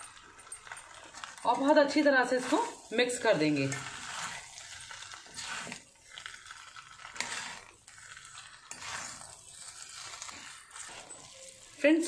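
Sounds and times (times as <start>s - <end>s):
spatula scraping a steel pan: 2.2s - 12.0s.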